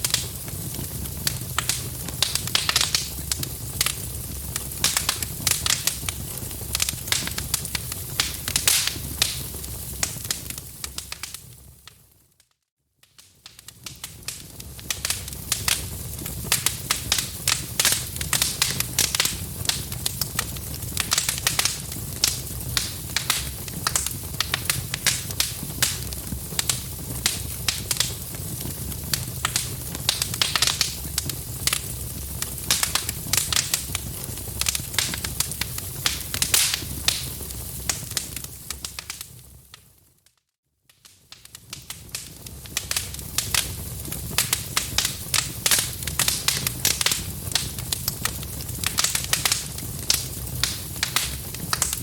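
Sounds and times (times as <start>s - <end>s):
low rumble of flames: 0.0s - 11.8s, 13.4s - 39.6s, 41.3s - 52.0s
wood fire crackling and popping: 0.0s - 12.4s, 13.0s - 52.0s.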